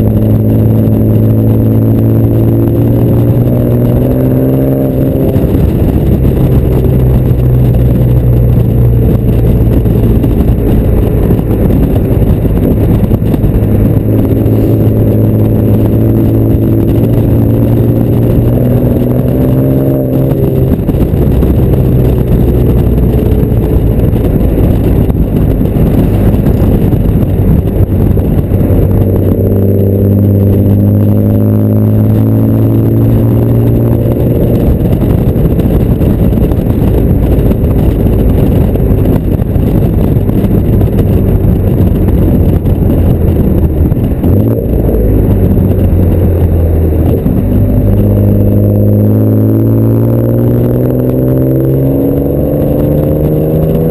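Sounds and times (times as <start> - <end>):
car exhaust revving: 0.0 - 53.9
wind over microphone: 0.0 - 53.9.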